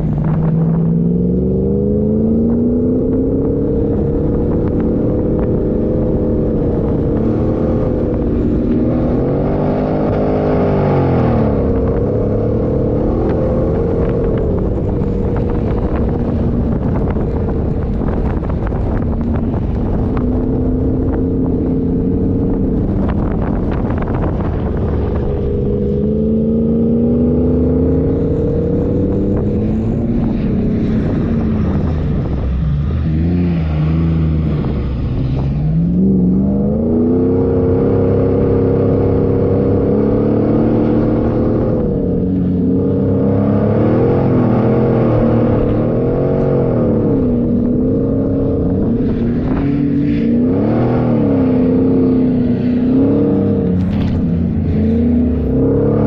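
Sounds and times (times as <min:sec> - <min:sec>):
engine revving up and down: 0:00.0 - 0:56.0.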